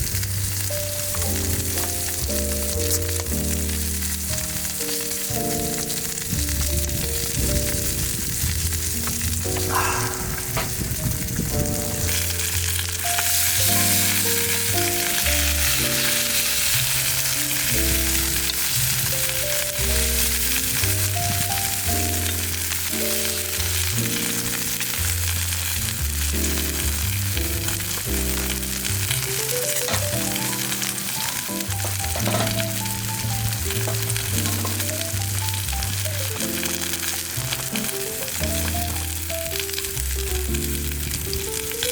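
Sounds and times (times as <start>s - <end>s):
background music: 0.0s - 41.9s
steak sizzling on a griddle: 0.0s - 41.9s.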